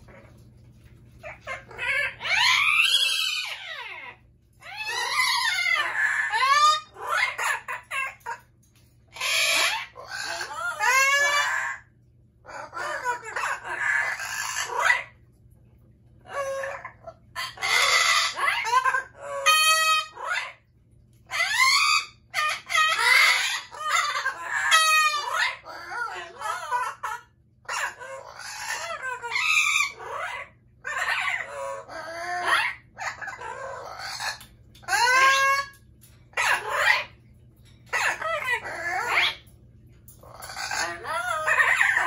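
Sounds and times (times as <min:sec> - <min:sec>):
parrot squawking: 0:01.1 - 0:08.5, 0:09.1 - 0:15.2, 0:16.2 - 0:20.7, 0:21.3 - 0:42.0.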